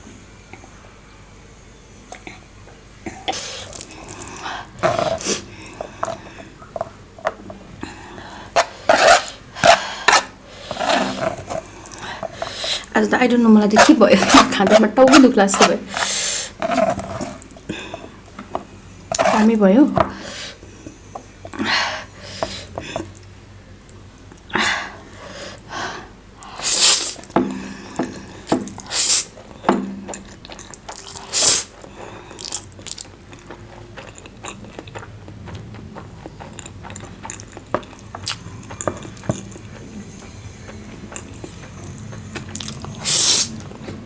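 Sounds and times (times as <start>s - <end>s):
wet chewing and slurping: 3.2s - 23.3s, 26.4s - 44.0s.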